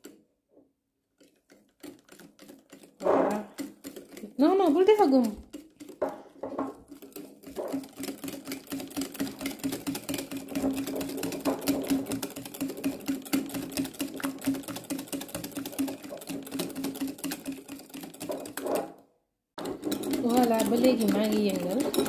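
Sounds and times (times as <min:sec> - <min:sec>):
whisk clicking against glass bowl: 0:01.2 - 0:18.8, 0:19.6 - 0:22.0.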